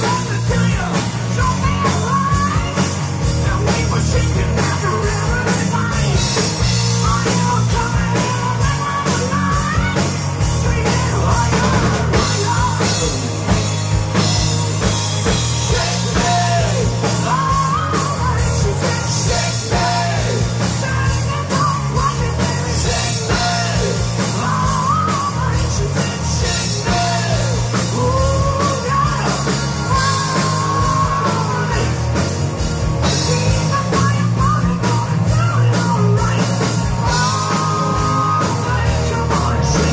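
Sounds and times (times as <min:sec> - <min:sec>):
bass guitar: 0:00.0 - 0:39.9
drum kit: 0:00.0 - 0:39.9
electric guitars: 0:00.0 - 0:39.9
man singing lead: 0:00.0 - 0:39.9.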